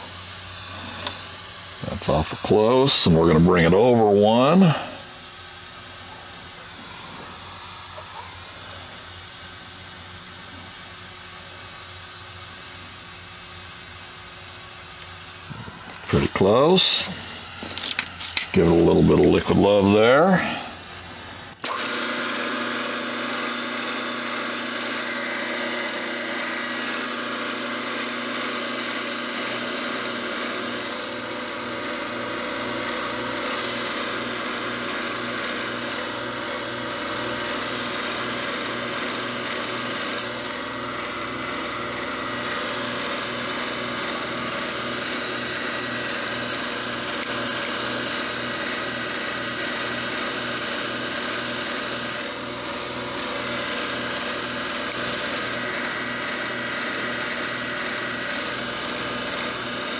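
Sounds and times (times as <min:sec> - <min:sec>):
milling machine cutting metal: 0:00.0 - 0:59.9.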